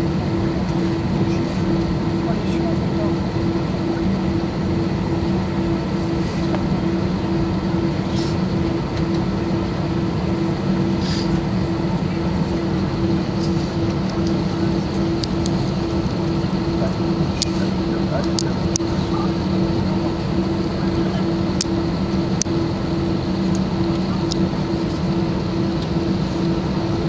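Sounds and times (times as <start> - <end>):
jet engines running at low power: 0.0 - 27.0
pulsing hum: 0.0 - 27.0.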